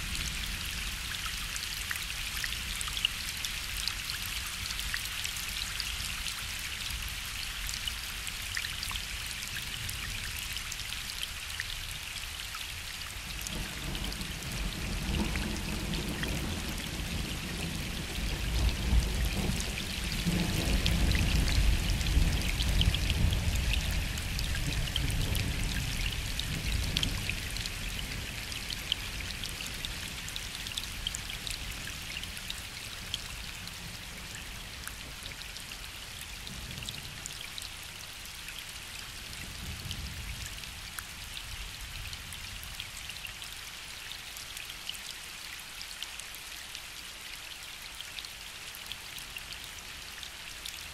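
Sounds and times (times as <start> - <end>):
rain falling on a lake: 0.0 - 50.9.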